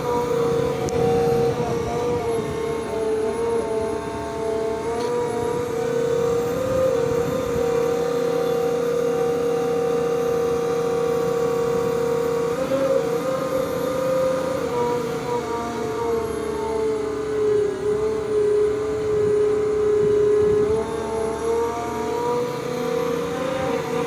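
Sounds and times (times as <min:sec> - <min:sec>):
concrete pump whining: 0:00.0 - 0:24.0.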